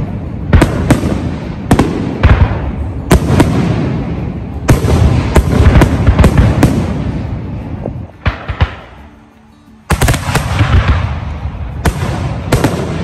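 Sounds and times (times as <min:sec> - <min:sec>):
fireworks bursting bangs: 0:00.0 - 0:09.3, 0:09.9 - 0:13.0.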